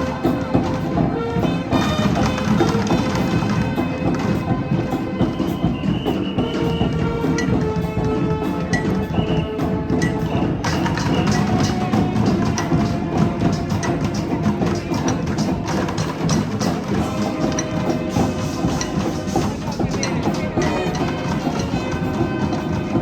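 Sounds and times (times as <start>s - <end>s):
horns playing: 0.0s - 23.0s
percussion with woodblock strikes: 0.0s - 23.0s.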